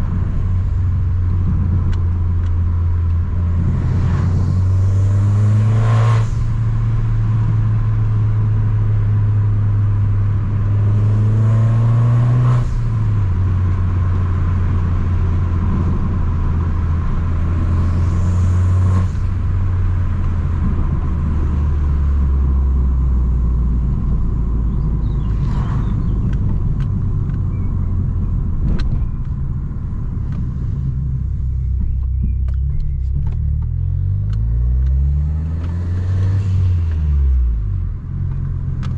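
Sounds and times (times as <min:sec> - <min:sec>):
car engine low drone: 0:00.0 - 0:38.9.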